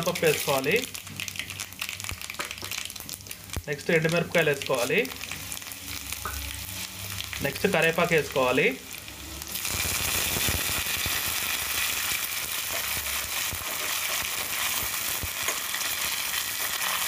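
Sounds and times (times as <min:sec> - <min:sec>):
leaves sizzling in hot oil: 0:00.0 - 0:17.0.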